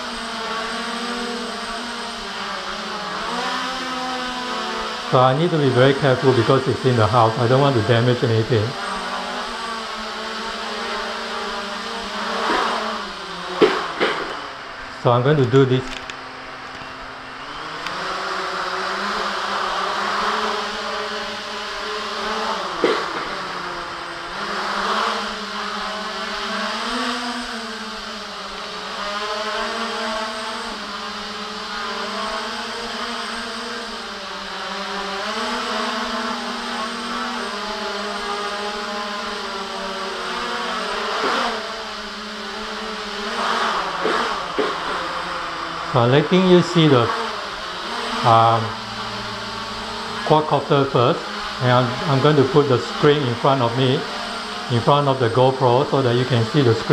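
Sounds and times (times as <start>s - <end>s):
drone motors humming: 0.0s - 56.9s.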